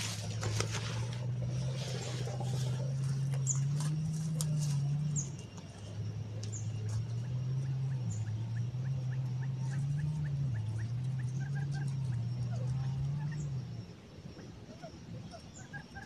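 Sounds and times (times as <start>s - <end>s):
quail chirping: 0.0s - 16.0s
steady low hum: 0.0s - 16.0s.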